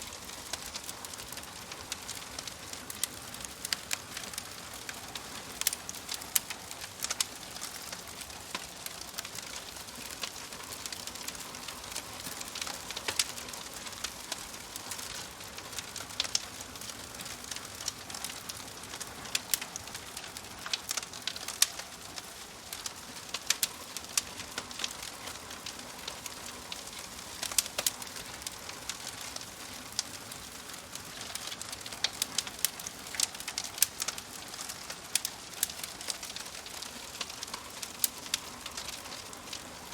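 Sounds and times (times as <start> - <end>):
fire hissing: 0.0 - 39.9
pops and snaps of burning logs: 0.0 - 39.9.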